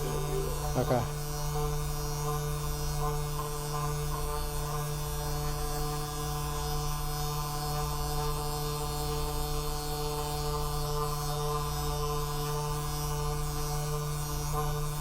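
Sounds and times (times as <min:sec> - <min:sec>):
electric massager humming: 0:00.0 - 0:15.0.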